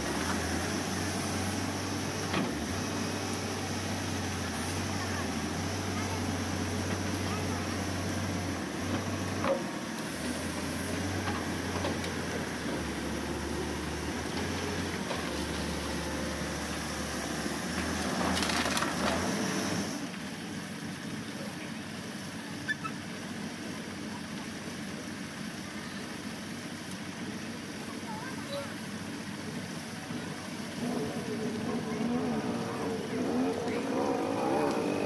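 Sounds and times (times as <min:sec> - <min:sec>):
excavator working: 0:00.0 - 0:35.0.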